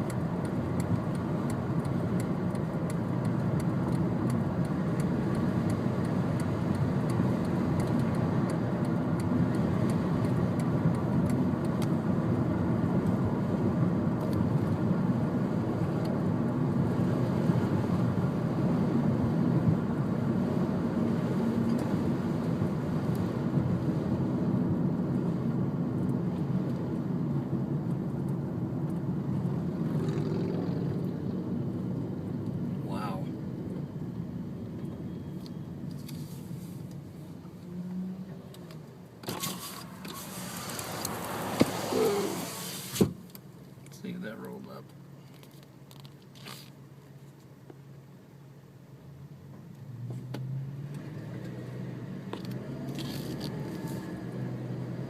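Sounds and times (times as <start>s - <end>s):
road vehicle rumble: 0.0s - 55.0s.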